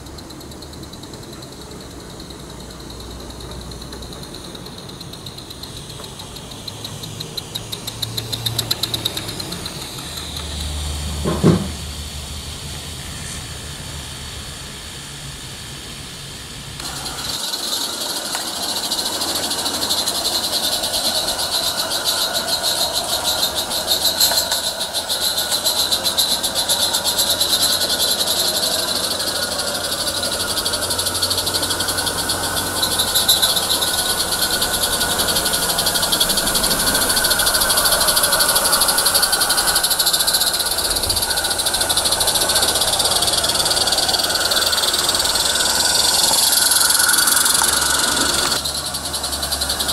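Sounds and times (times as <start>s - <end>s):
steam locomotives chuffing: 0.0s - 49.9s.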